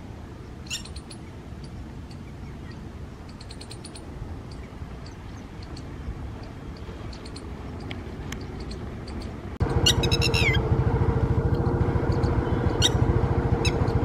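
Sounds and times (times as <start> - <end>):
low engine-like rumble: 0.0 - 14.0
lapwing calling: 0.6 - 10.7, 11.4 - 14.0.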